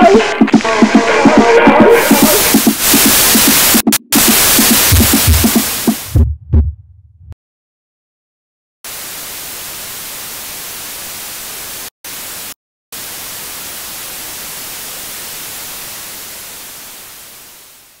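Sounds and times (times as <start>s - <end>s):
static hiss: 0.2s - 6.1s, 8.9s - 18.0s.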